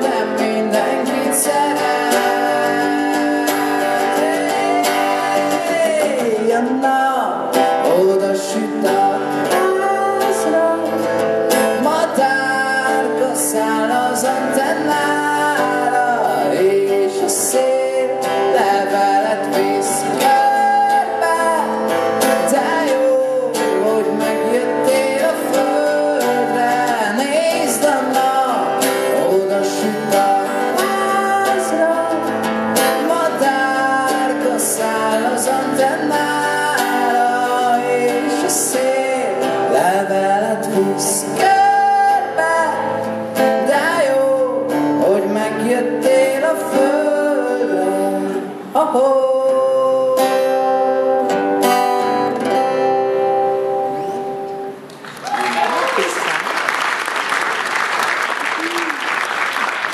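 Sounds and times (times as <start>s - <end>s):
man singing: 0.0s - 52.8s
strummed acoustic guitar: 0.0s - 54.9s.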